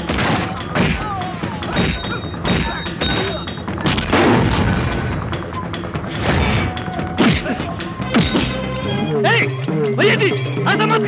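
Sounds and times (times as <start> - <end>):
action background score: 0.0 - 11.0.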